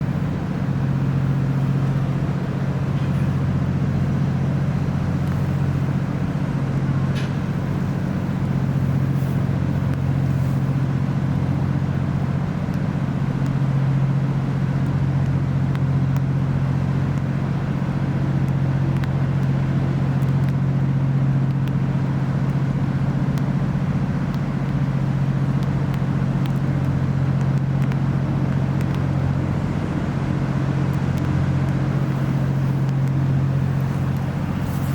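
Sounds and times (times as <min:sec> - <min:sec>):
low engine drone: 0:00.0 - 0:34.9.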